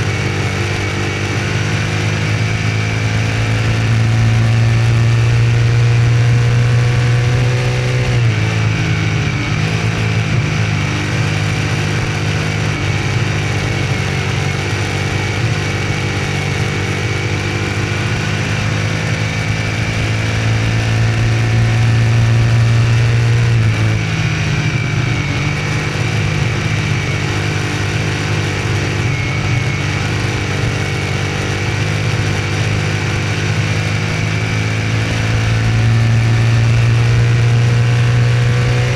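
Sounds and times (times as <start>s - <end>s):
race car engine at speed: 0.0s - 38.9s.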